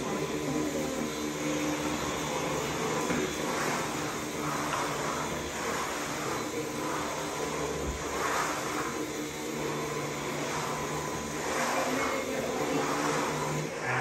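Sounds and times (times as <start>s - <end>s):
motor or fan humming: 0.0s - 14.0s.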